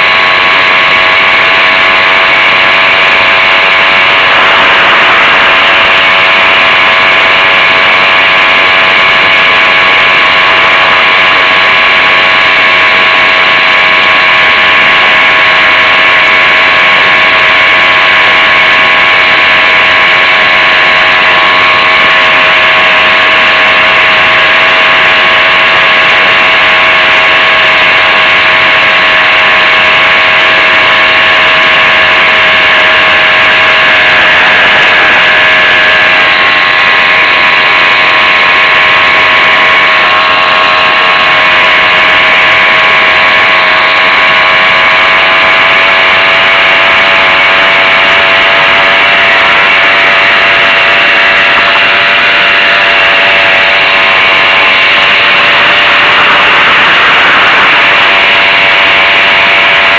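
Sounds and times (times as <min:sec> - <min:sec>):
moped engine running: 0:00.0 - 0:59.9.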